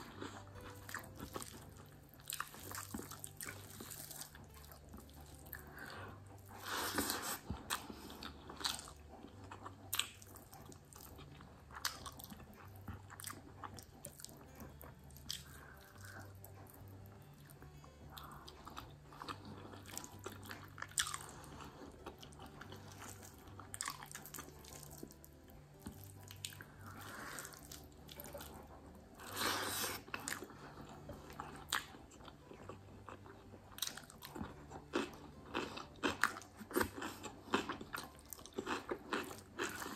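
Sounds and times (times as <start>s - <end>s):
person chewing with crunches: 0.0s - 39.9s.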